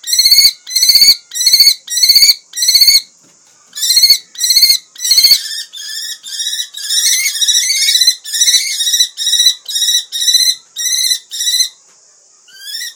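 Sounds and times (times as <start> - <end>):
kestrel calling: 0.0 - 3.1, 3.8 - 11.8, 12.4 - 12.9.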